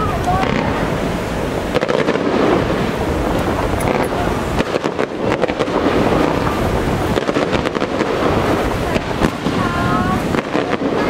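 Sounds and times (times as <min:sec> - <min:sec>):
fireworks cracking and popping: 0:00.0 - 0:11.0
surf: 0:00.0 - 0:11.0
wind: 0:00.0 - 0:11.0.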